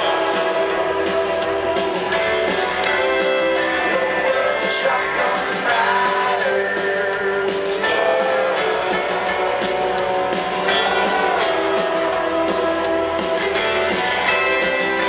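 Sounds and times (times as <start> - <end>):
electric guitar: 0.0 - 15.0
live country band: 0.0 - 15.0
person singing: 0.0 - 15.0.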